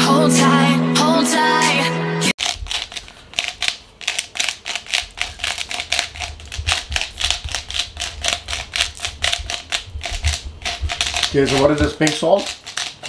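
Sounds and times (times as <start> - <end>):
salt grinder rasping: 2.4 - 13.0.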